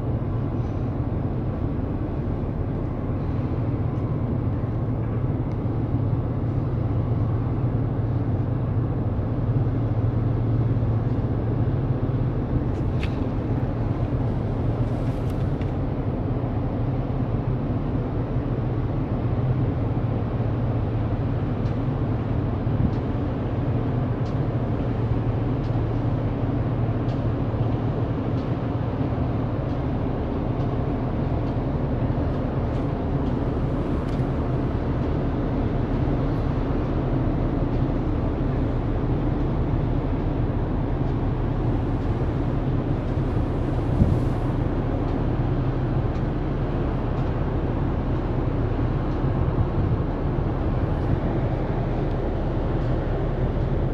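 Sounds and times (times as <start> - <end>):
ship engine drone: 0.0 - 53.9
wind and water hiss: 0.0 - 53.9.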